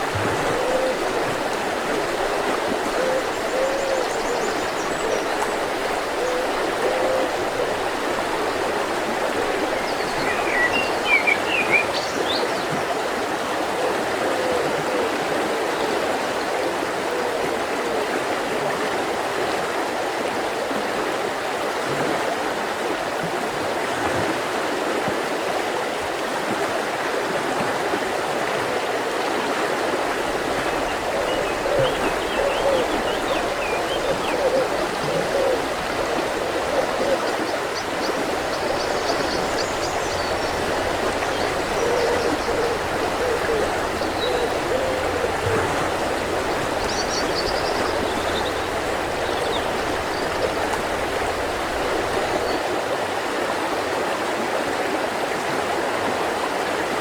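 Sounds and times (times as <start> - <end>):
mountain river flowing: 0.0 - 57.0.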